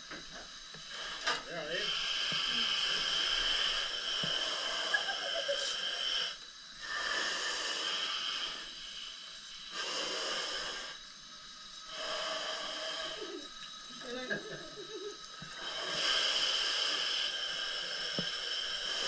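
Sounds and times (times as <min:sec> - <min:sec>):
hiss of breathing masks: 0:00.0 - 0:19.0.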